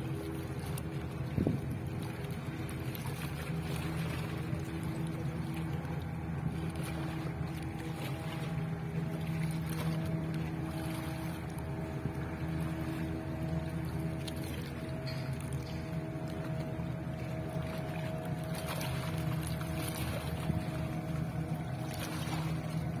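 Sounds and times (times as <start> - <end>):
boat engine humming: 0.0 - 23.0
water and wind noise: 0.0 - 23.0.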